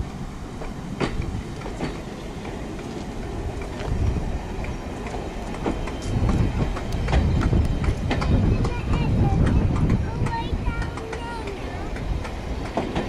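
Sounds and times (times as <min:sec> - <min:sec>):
train rumbling past: 0:00.0 - 0:13.0
wheels clicking on rail joints: 0:00.0 - 0:13.0.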